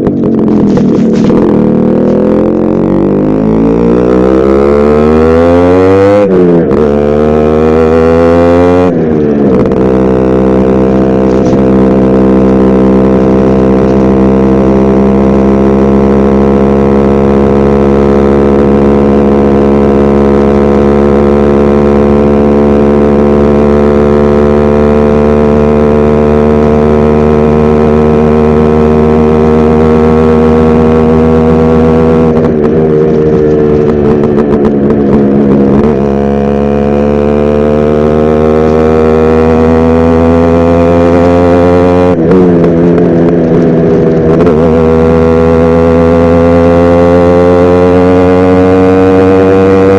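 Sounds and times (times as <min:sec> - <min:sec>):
two-stroke motorcycle engine: 0:00.0 - 0:49.9.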